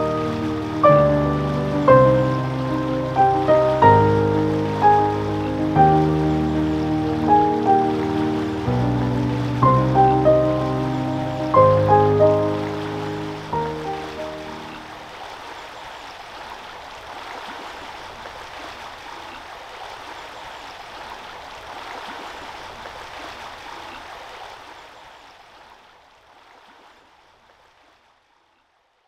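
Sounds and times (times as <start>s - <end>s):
river water running: 0.0s - 28.7s.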